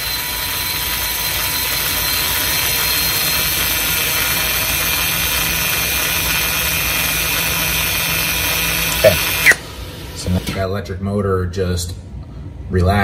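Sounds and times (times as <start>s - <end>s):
electric brake motors running: 0.0s - 10.7s.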